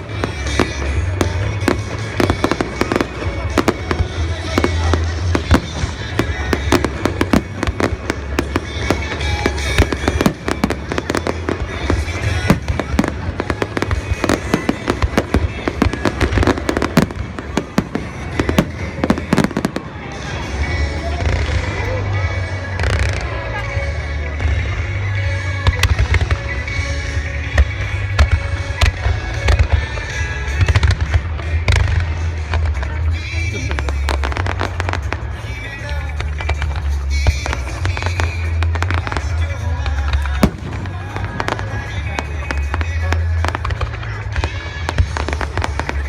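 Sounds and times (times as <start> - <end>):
fireworks bangs and crackles: 0.0 - 46.0
music playing: 0.0 - 46.0.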